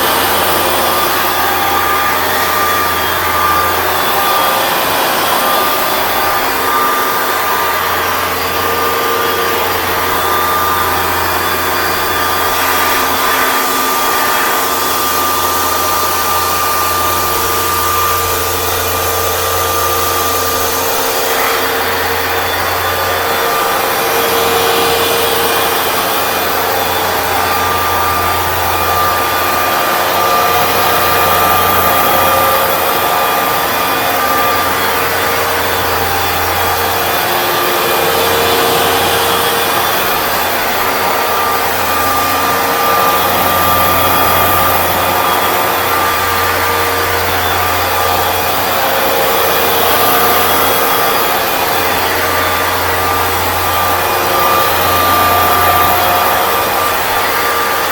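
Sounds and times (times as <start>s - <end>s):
carpet cleaner motor whining: 0.0s - 57.9s.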